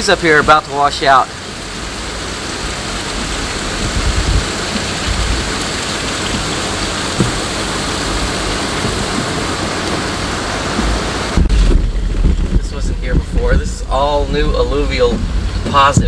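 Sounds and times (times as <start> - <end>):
water rushing: 0.0 - 16.0
low thumps: 3.1 - 16.0.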